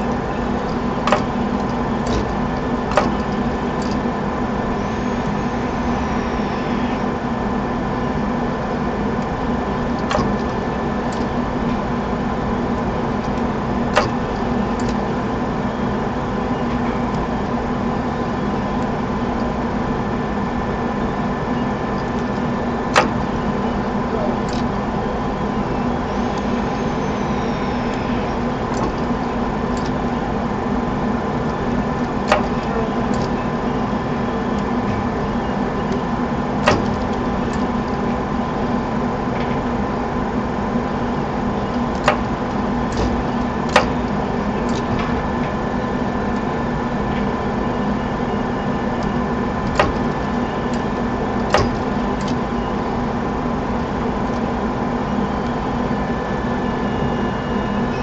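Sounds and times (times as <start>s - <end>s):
machine hum with steady tones: 0.0s - 58.0s.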